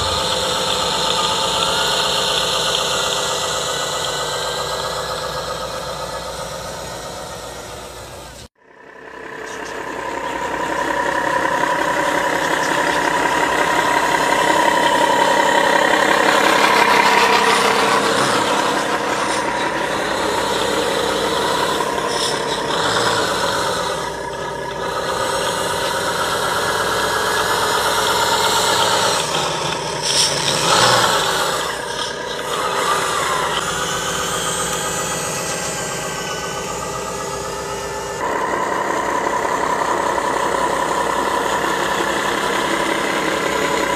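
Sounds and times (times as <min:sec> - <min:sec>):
diesel truck engine revving: 0:00.0 - 0:43.9.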